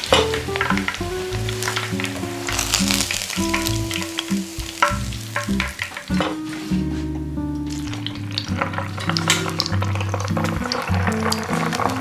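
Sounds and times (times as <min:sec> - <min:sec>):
background music: 0:00.0 - 0:12.0
oil sizzling and crackling: 0:00.0 - 0:12.0.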